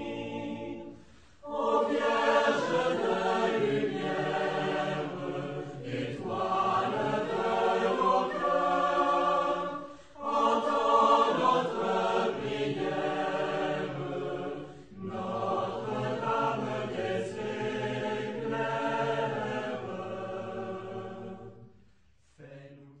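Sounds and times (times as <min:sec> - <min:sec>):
choir singing long held notes: 0:00.0 - 0:23.0.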